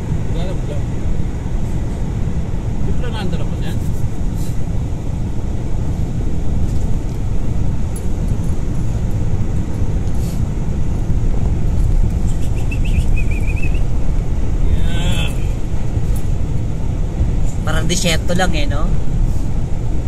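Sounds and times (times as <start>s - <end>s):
car driving heard from inside: 0.0s - 20.0s.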